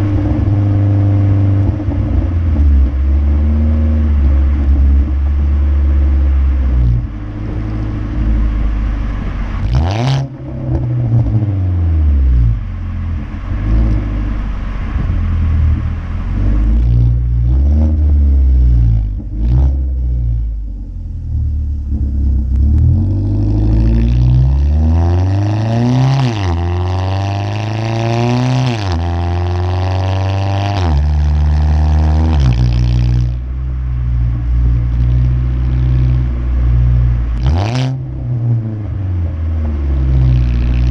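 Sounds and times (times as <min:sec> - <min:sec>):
exhaust pops: 0:00.0 - 0:38.9
car engine revving: 0:00.0 - 0:40.9.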